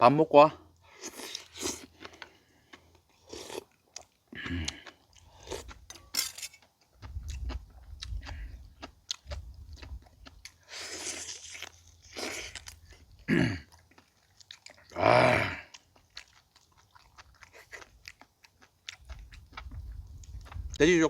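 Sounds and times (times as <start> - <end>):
person chewing: 0.7 - 20.8.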